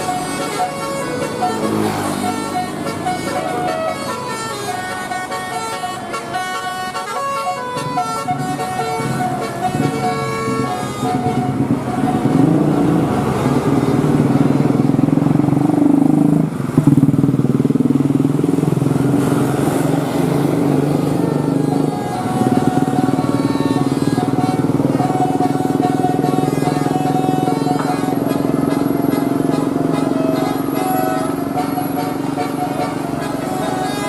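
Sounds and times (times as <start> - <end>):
musical air horn melody: 0.0 - 14.4, 19.8 - 34.0
engine running: 0.0 - 34.0.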